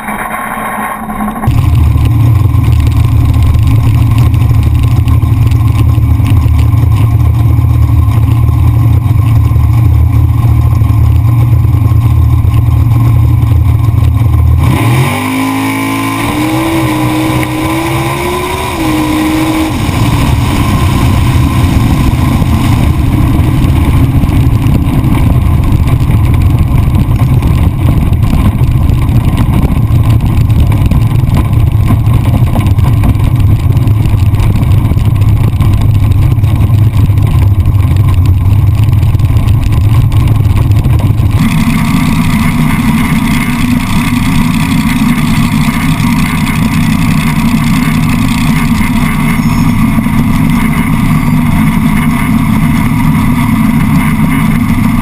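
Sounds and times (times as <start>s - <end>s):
loud vee eight engine running: 0.0s - 55.0s.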